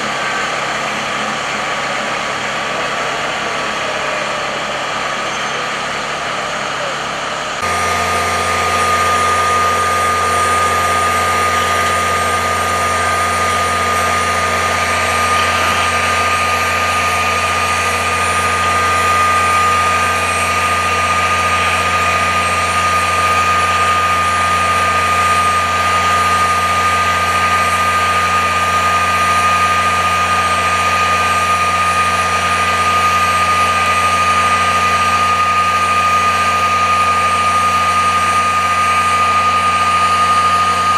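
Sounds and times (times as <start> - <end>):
diesel engine drone: 0.0 - 40.9
high whine: 0.0 - 40.9.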